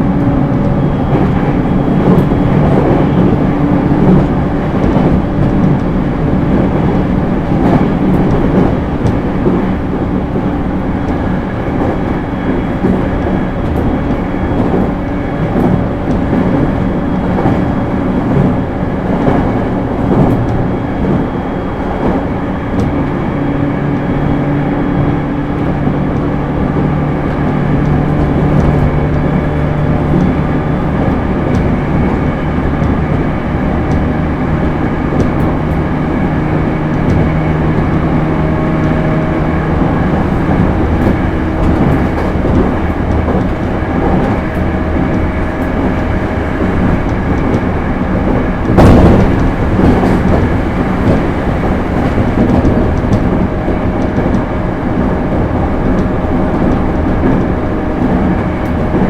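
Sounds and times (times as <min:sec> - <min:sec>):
train wheel and rail rumble: 0:00.0 - 0:59.0.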